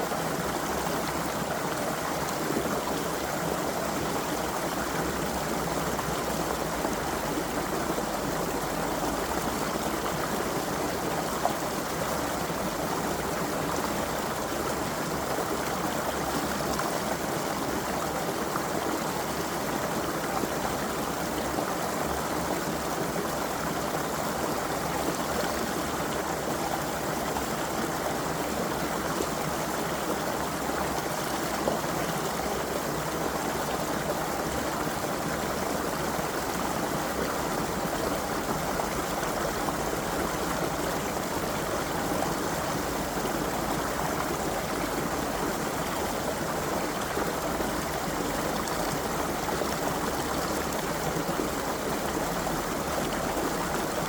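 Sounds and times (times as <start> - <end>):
creek flowing over stones: 0.0 - 54.0.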